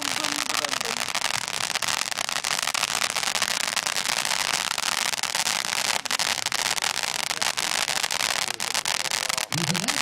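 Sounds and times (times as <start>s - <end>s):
firework fountain crackling: 0.0s - 10.0s.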